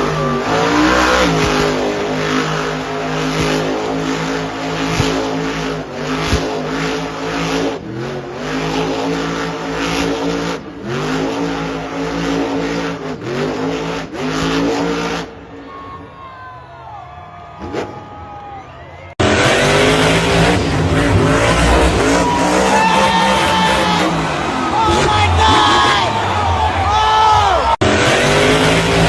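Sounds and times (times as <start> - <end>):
truck engine revving: 0.0 - 15.7, 19.1 - 29.0.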